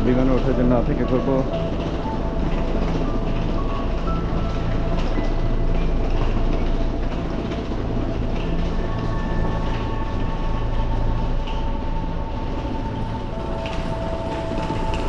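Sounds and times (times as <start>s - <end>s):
low drone: 0.0s - 15.0s
slow music with held notes: 0.0s - 15.0s.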